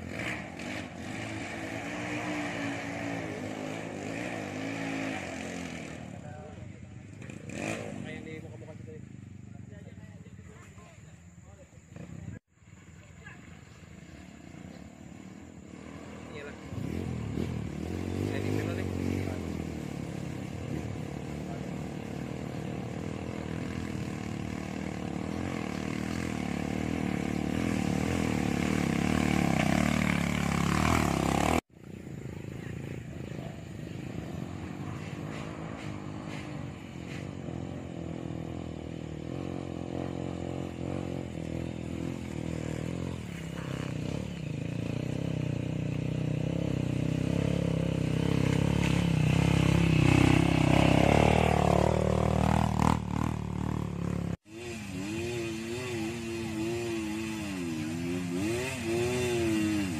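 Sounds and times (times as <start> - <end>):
vehicle engine running under load: 0.0 - 59.9.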